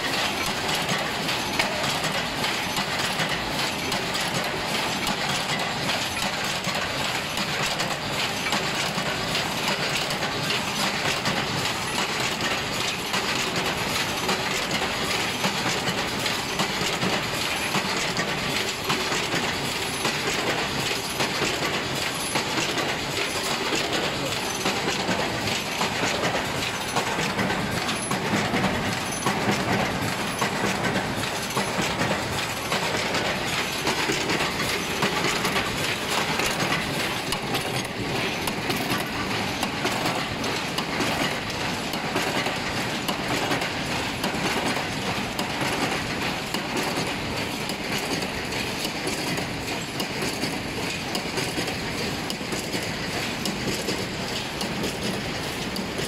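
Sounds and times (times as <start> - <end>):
fence machine metallic clatter: 0.0 - 56.0.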